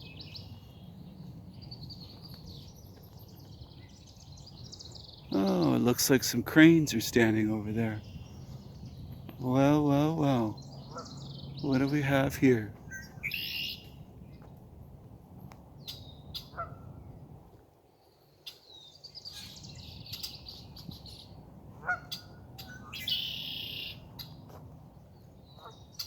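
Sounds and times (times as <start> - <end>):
birds chirping and calling: 0.0 - 14.5, 15.8 - 17.0, 18.4 - 26.0
faint outdoor background noise: 0.0 - 26.0.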